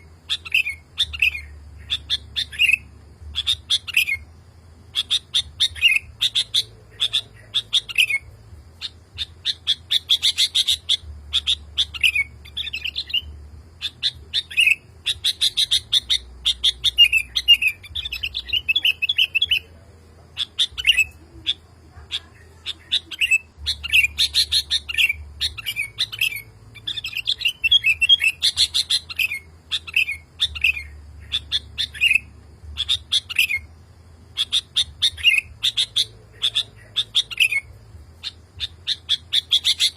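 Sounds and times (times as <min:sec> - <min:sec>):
bird singing whistled phrases: 0:00.0 - 0:04.3, 0:04.9 - 0:19.8, 0:20.4 - 0:21.6, 0:22.2 - 0:33.7, 0:34.3 - 0:39.9.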